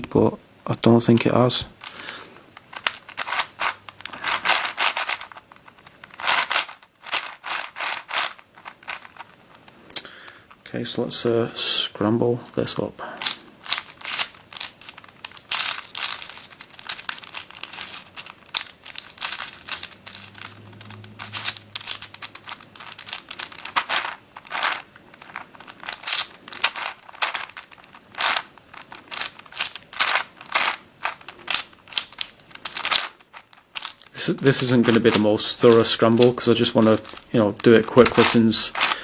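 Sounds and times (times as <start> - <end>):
puzzle cube clicking and clacking: 1.8 - 10.6, 13.2 - 39.0.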